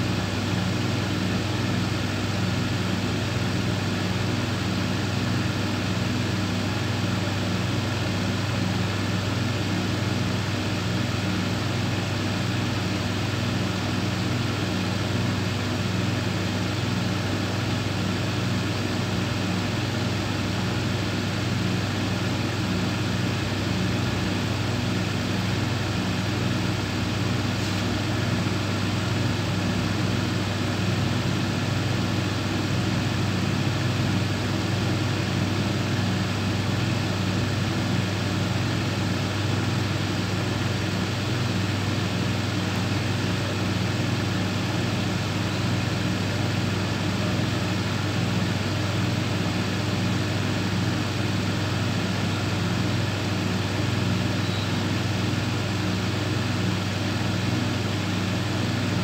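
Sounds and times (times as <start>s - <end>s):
thicknesser machine hum: 0.0s - 59.0s.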